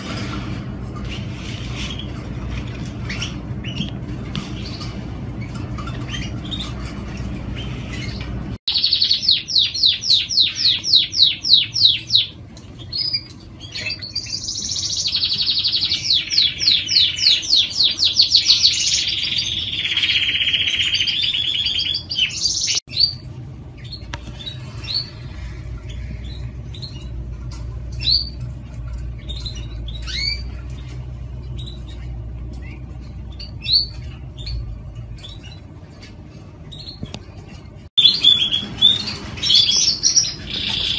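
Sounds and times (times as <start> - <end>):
canary singing trills: 1.1 - 40.9.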